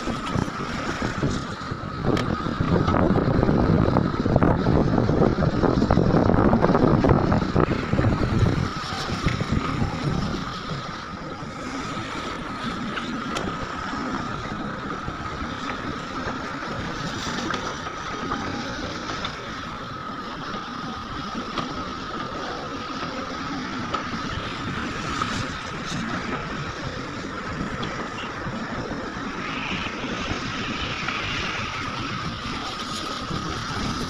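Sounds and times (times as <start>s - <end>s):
heavy machinery engine running: 0.0s - 34.0s
high whine: 0.0s - 34.0s.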